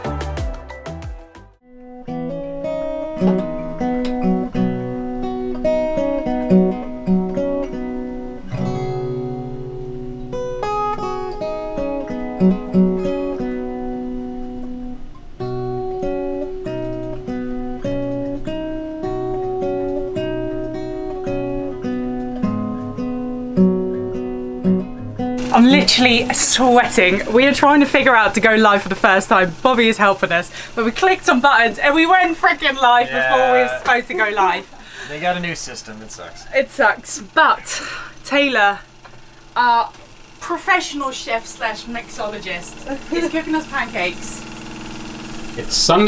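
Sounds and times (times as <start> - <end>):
acoustic guitar playing: 0.0 - 46.0.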